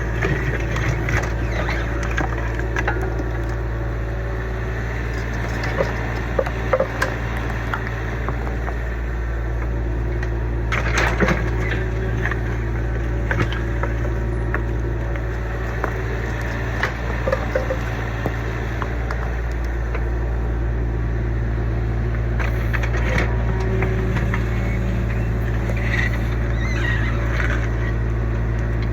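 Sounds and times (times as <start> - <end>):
diesel excavator engine running: 0.0 - 28.9.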